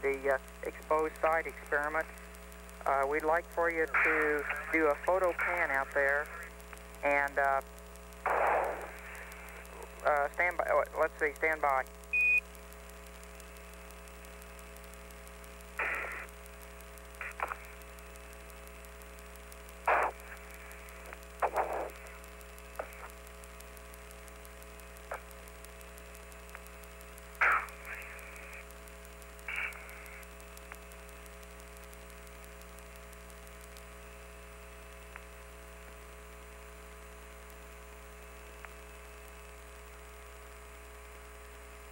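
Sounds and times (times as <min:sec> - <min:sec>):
bursts of radio static: 0:00.0 - 0:39.6
radio channel hum: 0:00.0 - 0:41.9.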